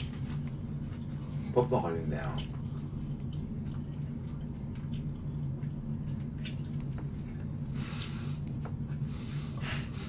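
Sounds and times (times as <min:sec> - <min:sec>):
faint chewing: 0:00.0 - 0:10.0
steady low hum: 0:00.0 - 0:10.0.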